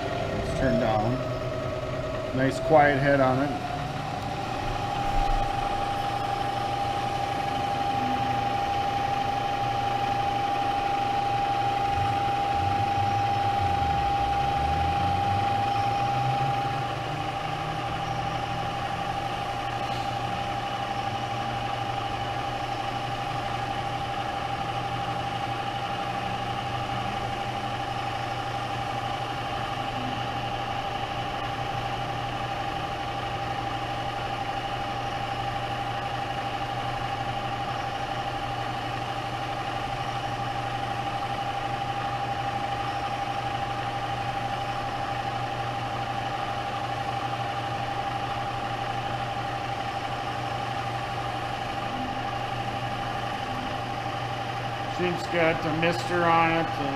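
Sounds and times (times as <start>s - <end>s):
milling machine spindle whine: 0.0s - 56.9s.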